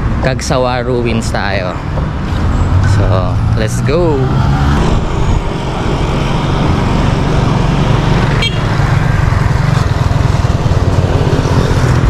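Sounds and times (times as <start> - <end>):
road noise: 0.0 - 12.0
wind rumble on microphone: 2.0 - 12.0.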